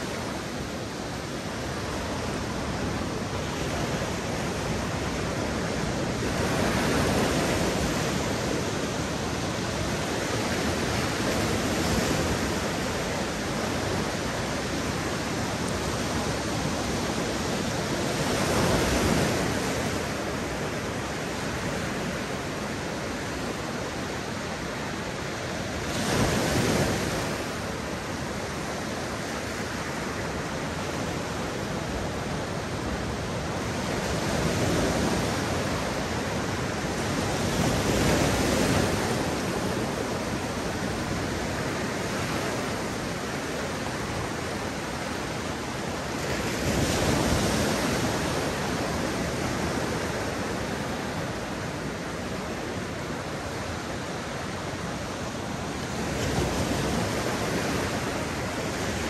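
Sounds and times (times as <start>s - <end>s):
surf rushing hiss: 0.0s - 59.0s
waves breaking on beach: 0.0s - 59.0s.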